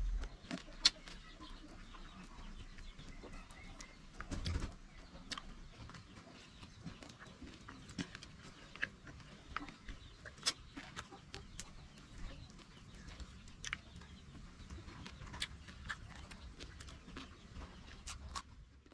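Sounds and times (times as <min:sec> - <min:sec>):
mouth clicks and smacks: 0:00.0 - 0:01.2, 0:03.8 - 0:06.0, 0:07.0 - 0:18.9
chewing food: 0:00.0 - 0:18.9.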